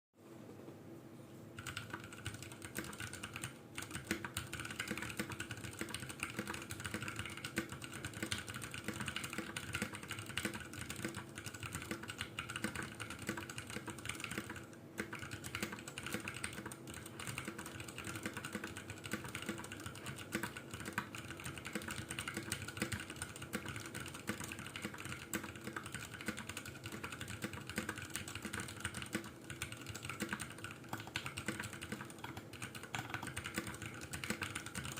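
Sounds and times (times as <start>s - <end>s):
mechanical keyboard typing: 1.6s - 34.9s.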